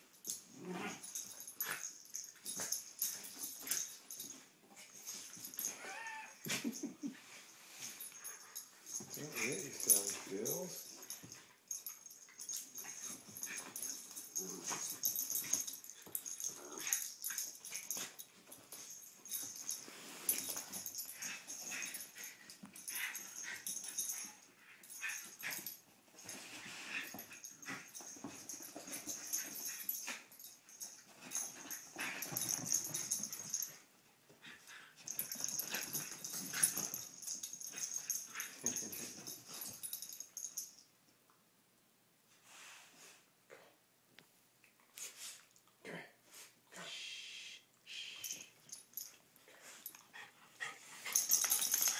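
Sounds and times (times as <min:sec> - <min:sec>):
dogs play-fighting breathy noises: 0:00.2 - 0:05.8, 0:06.4 - 0:40.7, 0:42.4 - 0:43.8, 0:48.2 - 0:51.9.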